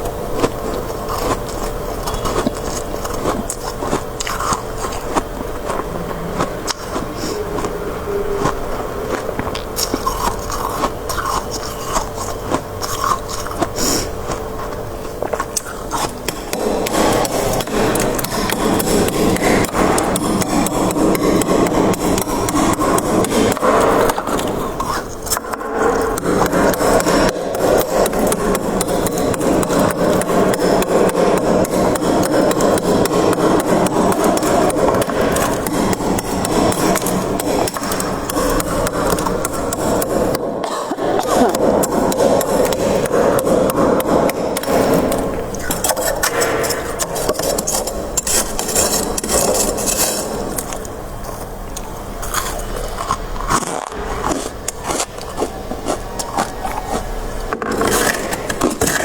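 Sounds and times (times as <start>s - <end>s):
freezer frost crunching: 0.0s - 59.0s.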